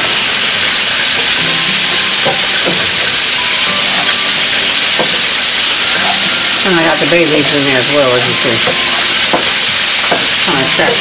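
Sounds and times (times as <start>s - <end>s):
vegetables sizzling in skillet: 0.0s - 11.0s.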